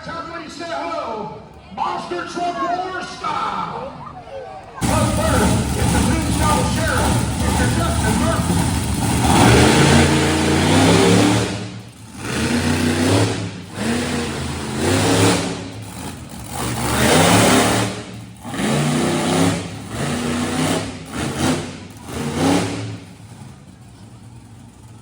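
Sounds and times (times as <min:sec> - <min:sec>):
monster truck engine revving: 0:04.8 - 0:25.0.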